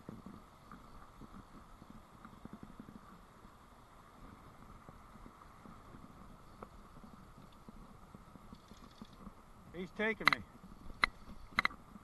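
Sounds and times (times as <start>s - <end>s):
soft scattered ticks: 0.0s - 12.0s.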